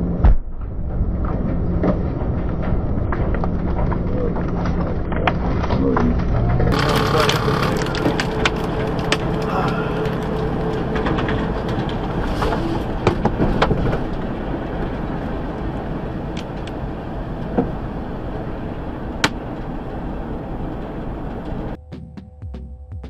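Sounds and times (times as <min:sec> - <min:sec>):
road and engine noise in truck cab: 0:00.0 - 0:22.4.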